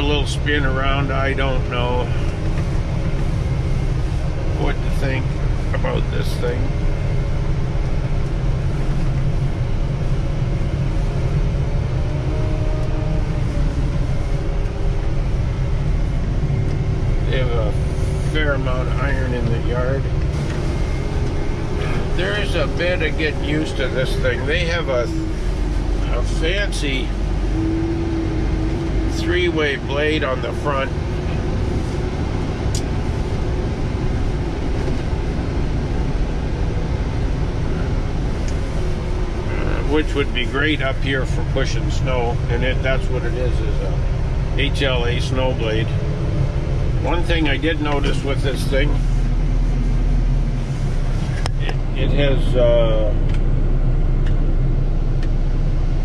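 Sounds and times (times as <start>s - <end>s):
diesel engine rumbling: 0.0s - 56.0s
droning whine: 0.0s - 56.0s.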